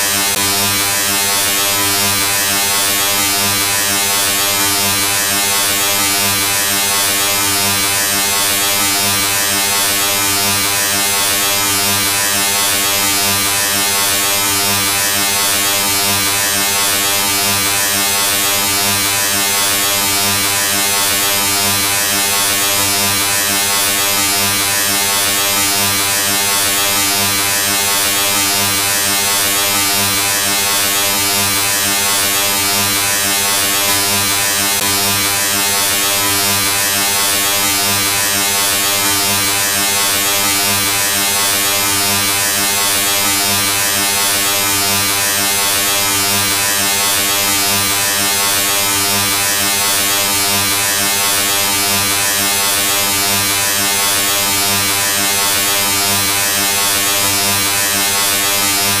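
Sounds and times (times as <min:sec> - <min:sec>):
electric buzz: 0:00.0 - 0:59.0.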